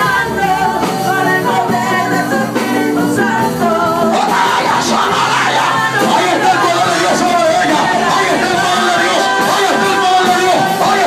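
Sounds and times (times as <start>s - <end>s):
upbeat worship music: 0.0s - 11.0s.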